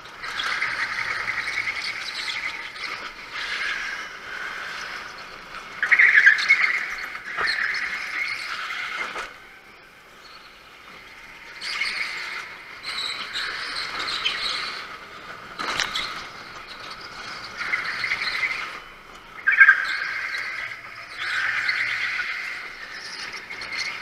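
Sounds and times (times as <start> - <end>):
go-kart engine: 0.0 - 24.0.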